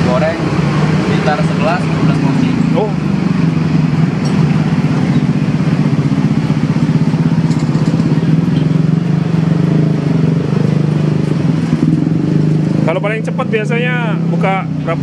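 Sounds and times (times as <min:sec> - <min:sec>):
idling engine hum: 0:00.0 - 0:15.0.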